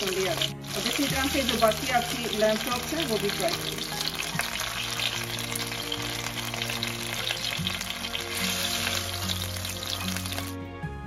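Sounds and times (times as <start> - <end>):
meat sizzling in frying pan: 0.0 - 10.6
soft background music: 0.0 - 11.0.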